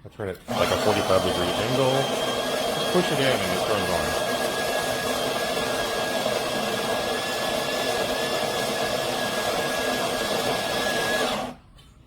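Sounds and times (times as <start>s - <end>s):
coffee grinder grinding beans: 0.5s - 11.6s.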